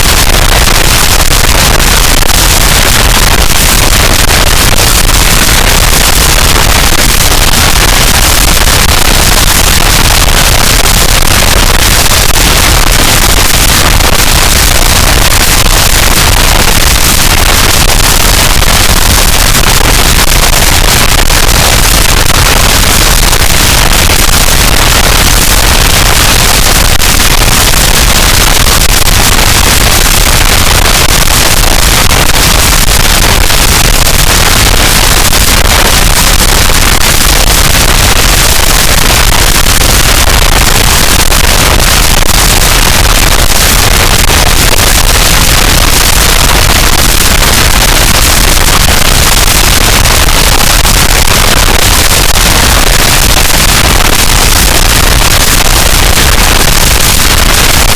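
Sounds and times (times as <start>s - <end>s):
dense distorted static noise: 0.0s - 57.9s.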